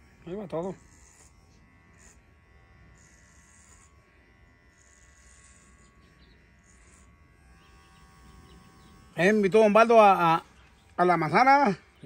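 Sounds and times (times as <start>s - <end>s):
electric hair clipper humming: 0.0s - 12.0s.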